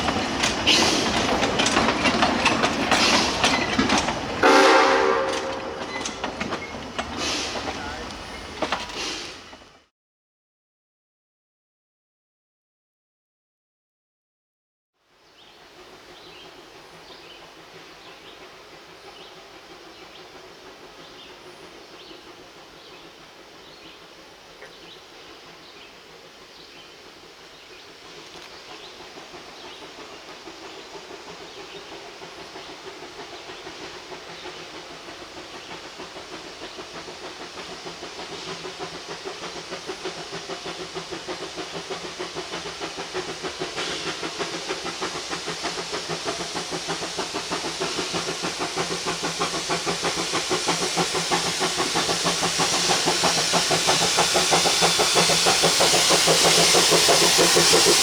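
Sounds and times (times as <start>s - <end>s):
steam locomotive hissing: 0.0s - 9.8s, 15.3s - 58.0s.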